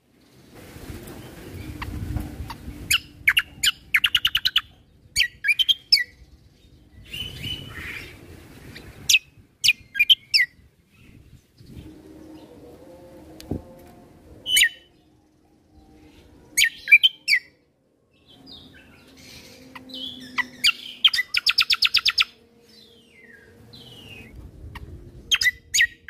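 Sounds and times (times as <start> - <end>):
songbird chirping and whistling: 1.3 - 8.2, 8.8 - 11.9, 14.5 - 17.6, 18.2 - 26.0.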